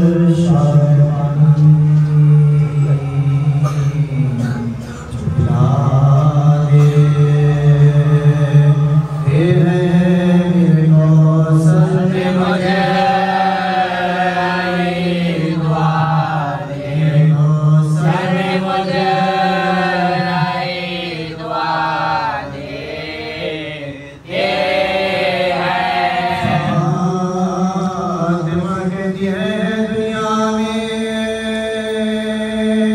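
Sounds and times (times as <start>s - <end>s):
voices chanting a lament: 0.0s - 32.9s.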